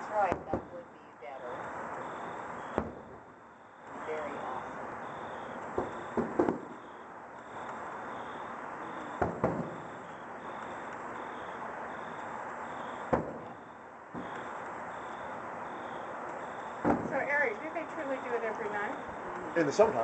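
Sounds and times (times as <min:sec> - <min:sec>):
distant fireworks booming: 0:00.0 - 0:20.0
steady background hiss: 0:00.0 - 0:20.0.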